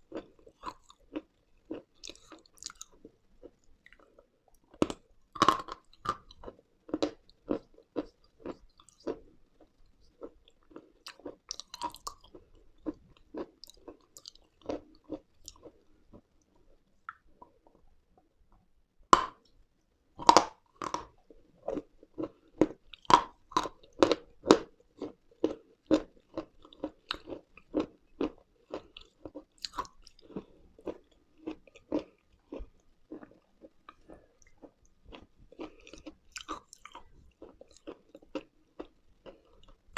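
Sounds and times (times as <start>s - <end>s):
crunchy chewing: 0.0s - 16.3s, 20.2s - 39.9s.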